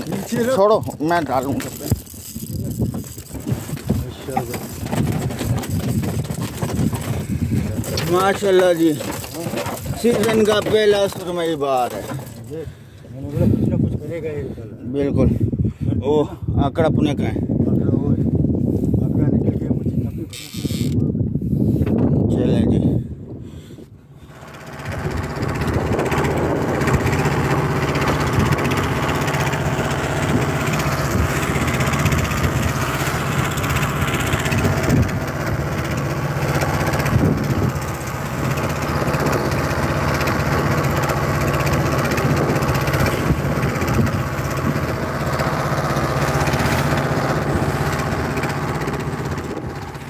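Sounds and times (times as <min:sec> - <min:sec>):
boat engine running: 0:00.0 - 0:15.6, 0:18.7 - 0:50.0
water and wind rushing past hull: 0:00.0 - 0:50.0.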